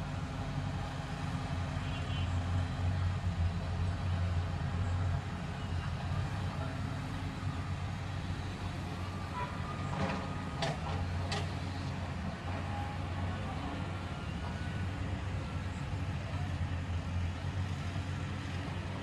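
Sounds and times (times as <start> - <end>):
distant excavator diesel engine: 0.0 - 19.0.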